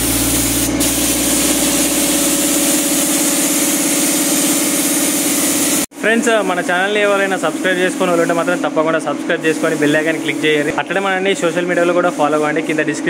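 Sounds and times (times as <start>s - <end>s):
air compressor humming: 0.0s - 13.0s
paint spray gun hissing: 0.0s - 13.0s.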